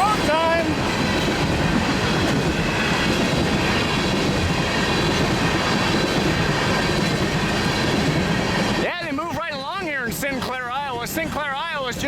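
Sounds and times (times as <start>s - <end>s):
high ringing from train wheels: 0.0s - 12.0s
steel wheels rumbling on rail: 0.0s - 12.0s.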